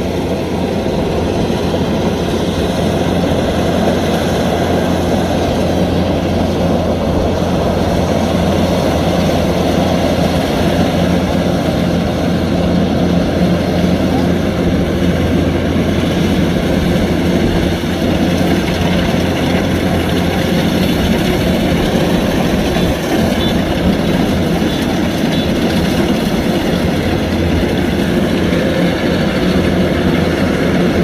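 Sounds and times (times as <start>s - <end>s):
combine harvester drone: 0.0s - 31.0s.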